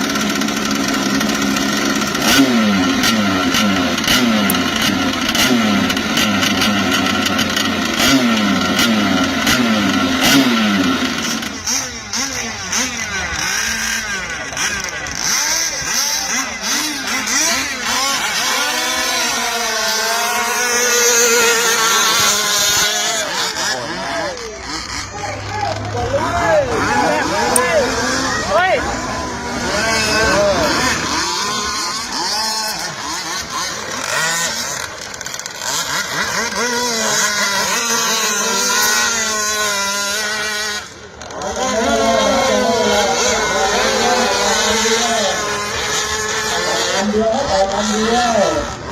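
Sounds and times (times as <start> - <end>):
small two-stroke boat engines: 0.0 - 48.9.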